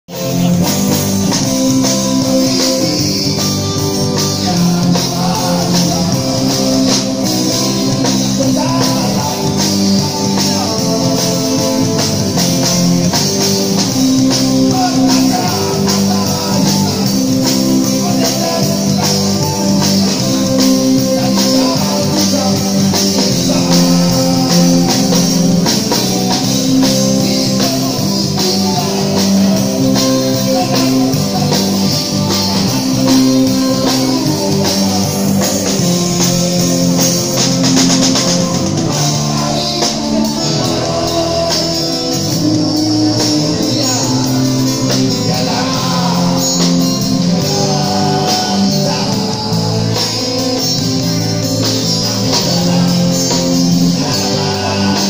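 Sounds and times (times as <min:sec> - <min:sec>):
electric guitar: 0:00.0 - 0:55.0
drum kit beat: 0:00.1 - 0:55.0
person singing: 0:00.1 - 0:55.0.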